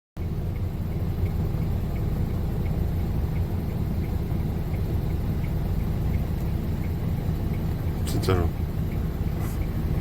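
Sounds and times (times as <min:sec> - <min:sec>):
low engine rumble: 0:00.2 - 0:10.0.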